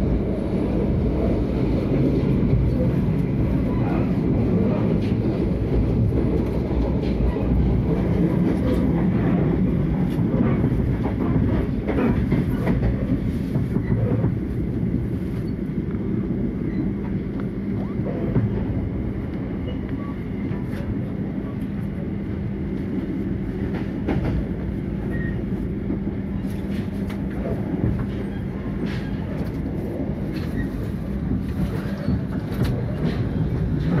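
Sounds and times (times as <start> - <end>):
train rumble inside carriage: 0.0 - 34.0.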